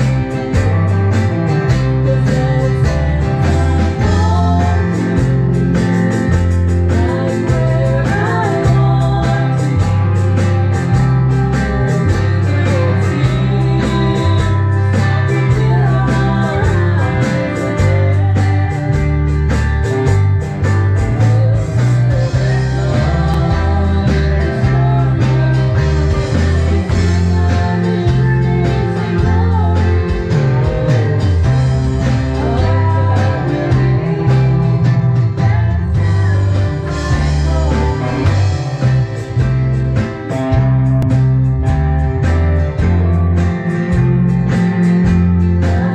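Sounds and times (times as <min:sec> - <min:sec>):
drum kit with cymbals: 0:00.0 - 0:45.9
electric bass line: 0:00.0 - 0:45.9
electric guitar: 0:00.0 - 0:45.9.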